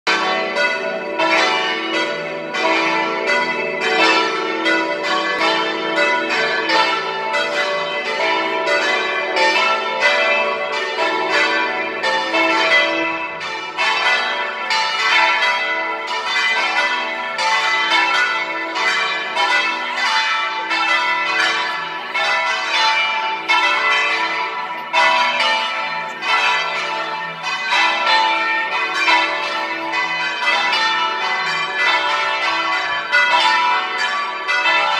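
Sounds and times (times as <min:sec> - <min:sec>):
church bells ringing a peal: 0:00.1 - 0:34.9.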